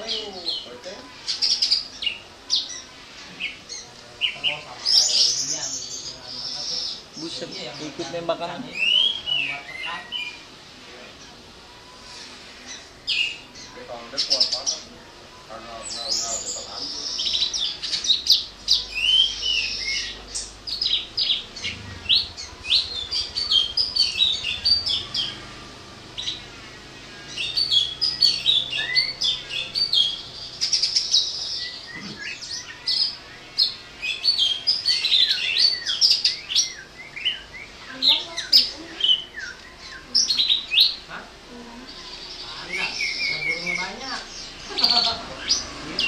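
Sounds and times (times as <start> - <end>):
birds chirping and whistling: 0.0 - 46.0.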